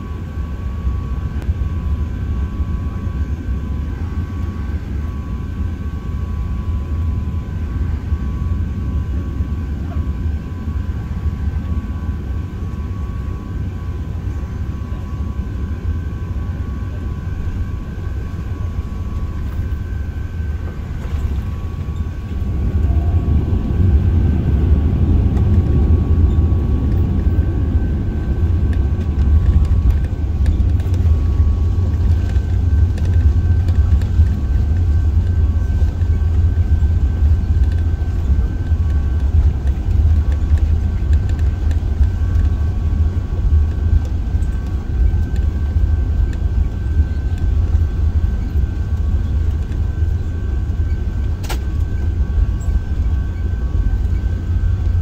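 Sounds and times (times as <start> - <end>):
aircraft cabin low rumble: 0.0 - 55.0
faint steady whine: 0.0 - 55.0.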